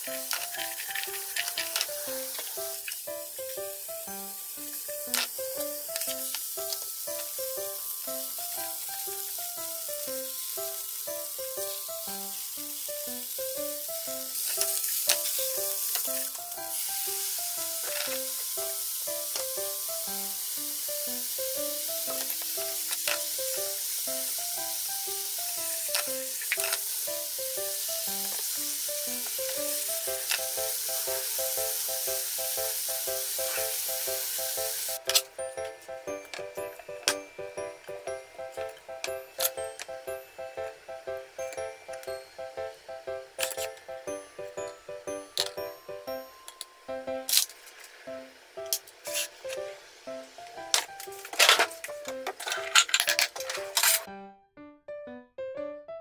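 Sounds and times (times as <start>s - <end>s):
food sizzling in a frying pan: 0.0s - 46.4s.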